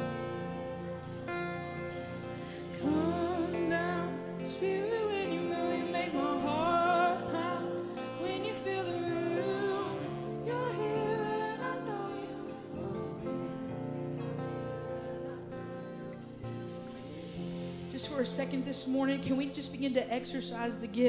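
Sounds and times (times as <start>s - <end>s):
band with guitar: 0.0s - 21.0s
wordless singing: 0.0s - 21.0s.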